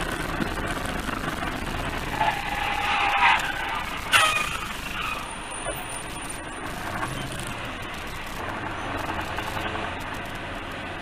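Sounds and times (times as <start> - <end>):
tyres rumbling on road: 0.0 - 11.0
vehicle engine hum: 0.0 - 11.0.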